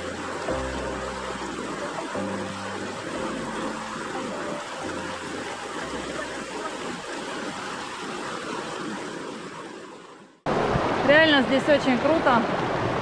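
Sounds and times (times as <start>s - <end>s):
rushing river: 0.0s - 13.0s.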